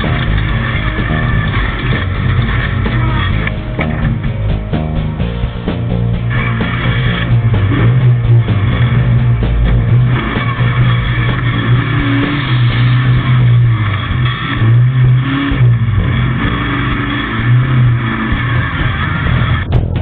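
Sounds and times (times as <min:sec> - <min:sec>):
race vehicle engine surging: 0:00.0 - 0:20.0.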